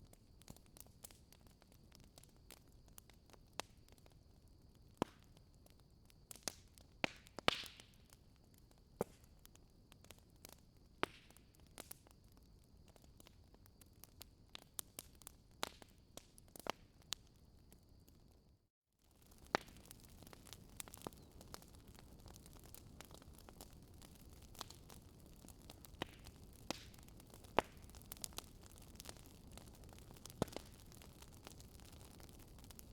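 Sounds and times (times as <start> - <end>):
wood fire crackling: 0.1 - 18.3, 19.1 - 32.9.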